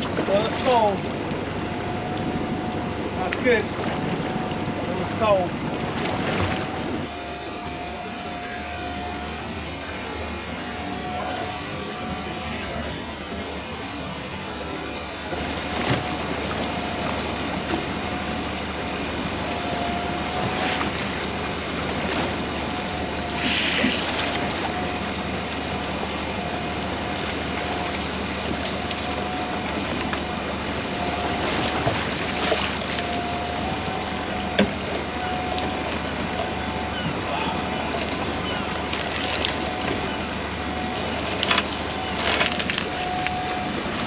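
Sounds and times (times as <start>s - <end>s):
faint steady whine: 0.0s - 44.0s
water noise: 0.0s - 44.0s.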